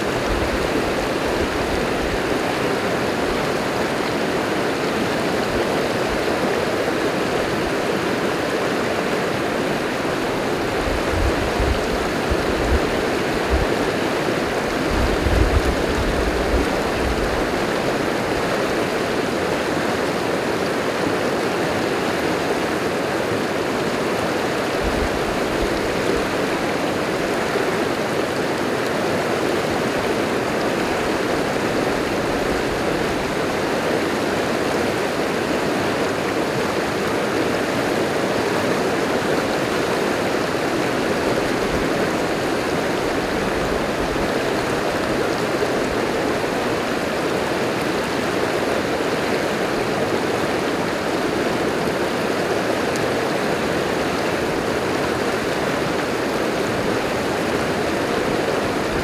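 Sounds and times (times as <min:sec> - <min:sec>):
river rapids rushing over boulders: 0:00.0 - 0:59.0.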